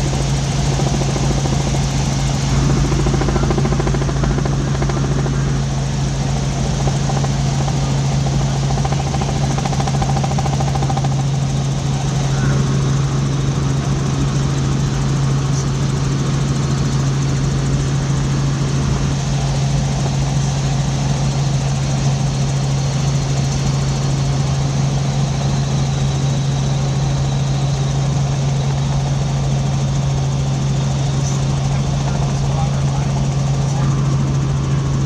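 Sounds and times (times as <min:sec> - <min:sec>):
helicopter engine and rotor drone: 0:00.0 - 0:35.0.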